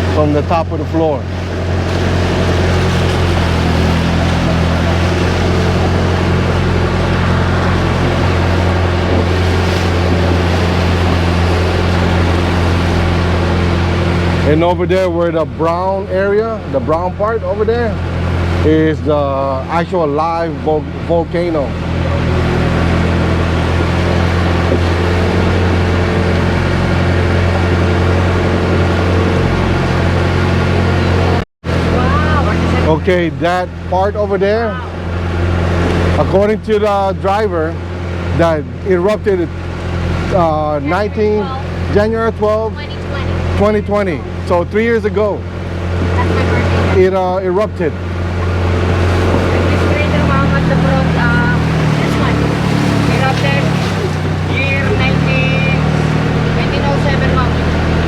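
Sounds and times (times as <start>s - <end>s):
boat engine humming: 0.0s - 58.0s
water rushing: 0.0s - 58.0s
wind: 0.0s - 58.0s.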